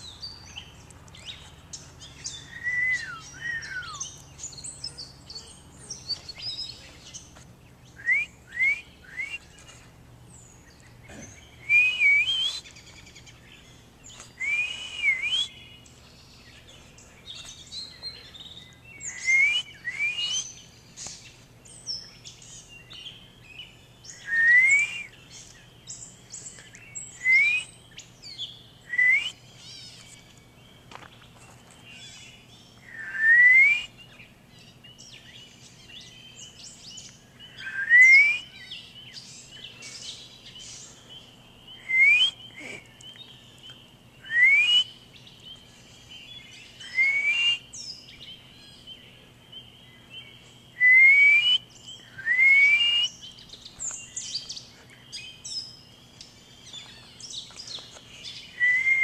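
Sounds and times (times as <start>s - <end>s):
bird chirps and twitters: 0.0s - 33.2s, 33.9s - 50.8s, 53.0s - 59.0s
songbirds singing: 0.0s - 59.0s.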